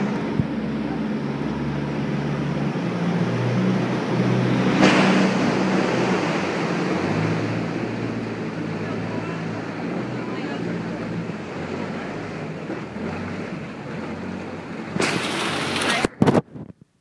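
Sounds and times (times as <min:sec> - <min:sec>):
boat motor running: 0:00.0 - 0:16.7
water washing along hull: 0:00.0 - 0:16.7.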